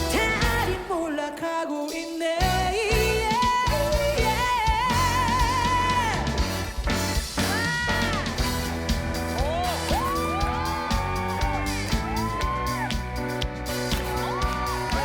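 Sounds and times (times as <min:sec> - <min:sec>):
drum beat: 0:00.0 - 0:01.0, 0:02.4 - 0:15.0
pop-rock band playing: 0:00.0 - 0:01.3, 0:01.9 - 0:15.0.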